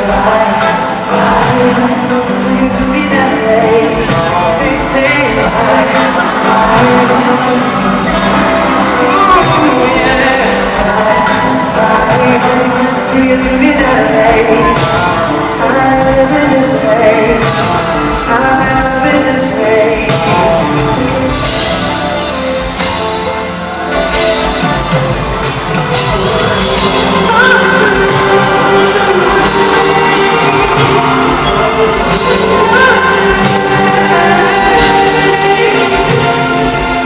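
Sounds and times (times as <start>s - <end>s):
man singing: 0.0s - 22.8s, 23.9s - 37.0s
band playing pop song: 0.0s - 37.0s.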